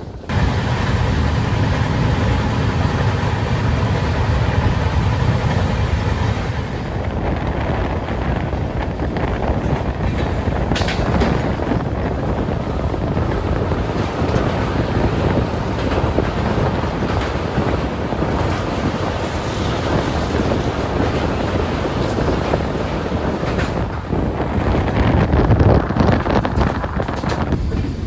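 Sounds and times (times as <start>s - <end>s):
train rumble: 0.0s - 28.0s
wind buffeting microphone: 0.0s - 28.0s.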